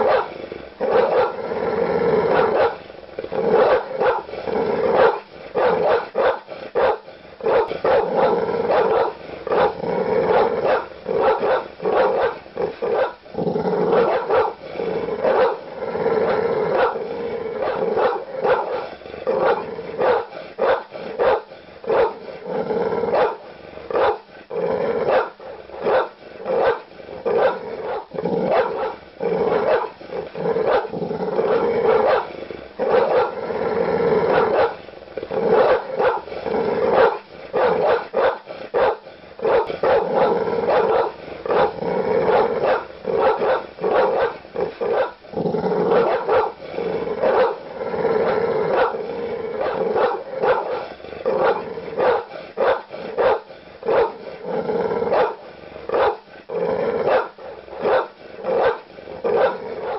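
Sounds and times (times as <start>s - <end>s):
large dog barking: 0.0s - 1.5s, 2.1s - 59.9s
dog growling: 0.0s - 59.9s.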